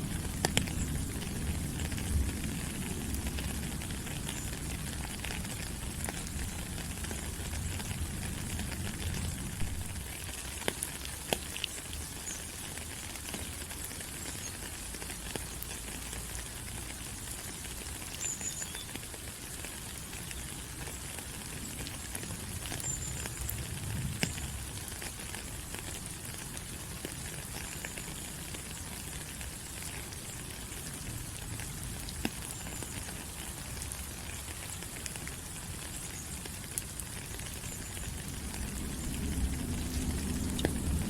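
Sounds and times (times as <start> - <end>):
louder raindrops: 0.0 - 41.0
rain falling on leaves: 0.0 - 41.0.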